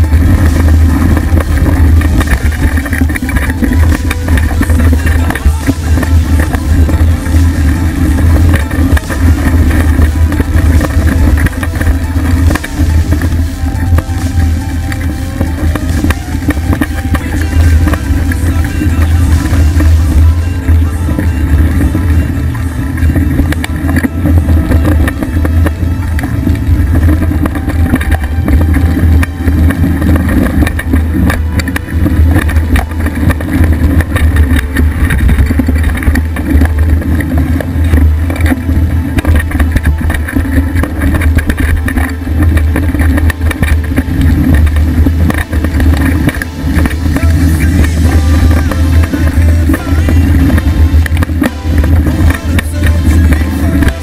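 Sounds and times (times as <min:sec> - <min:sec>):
bike rattling: 0:00.0 - 0:54.0
tyre and wind rumble: 0:00.0 - 0:54.0.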